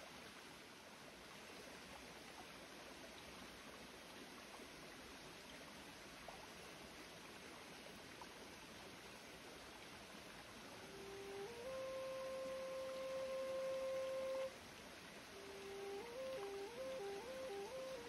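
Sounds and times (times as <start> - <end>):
stream flowing: 0.0 - 18.0.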